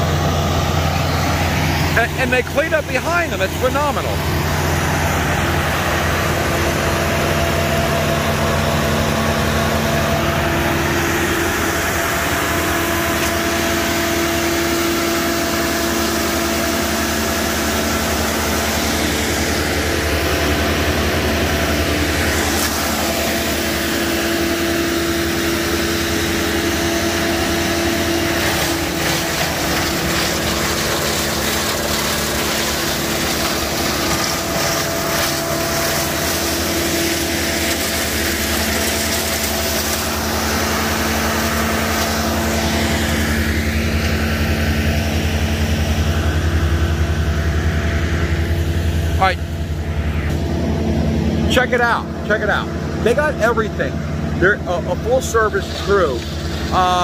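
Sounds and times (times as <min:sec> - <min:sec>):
heavy machinery engines running: 0:00.0 - 0:57.0.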